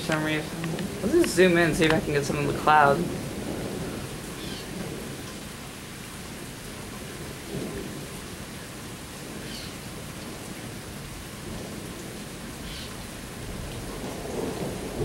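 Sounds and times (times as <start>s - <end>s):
low rumble of thunder: 0.0s - 15.0s
steady rain hiss: 0.0s - 15.0s.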